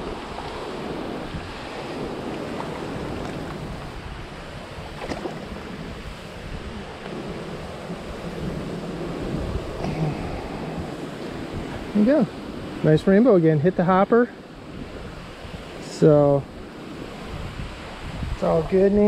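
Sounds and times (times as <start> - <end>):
creek water running: 0.0 - 19.0
wind buffeting microphone: 0.0 - 19.0.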